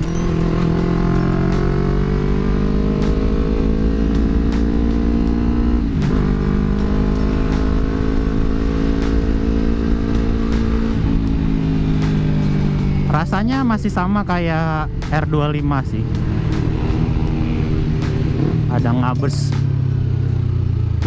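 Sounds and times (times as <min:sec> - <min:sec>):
motorcycle engine deep exhaust note: 0:00.0 - 0:21.0.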